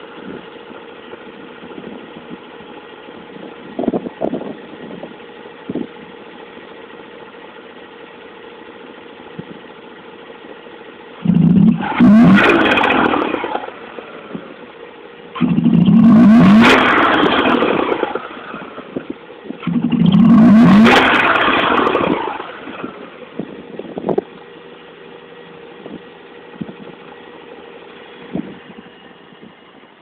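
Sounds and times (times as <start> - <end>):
rotary engine revving and idling: 0.0 - 30.0.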